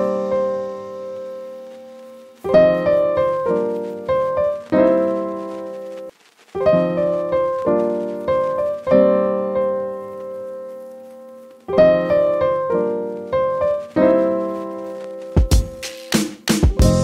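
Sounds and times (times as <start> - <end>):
piano chords ringing out: 0.0 - 15.8.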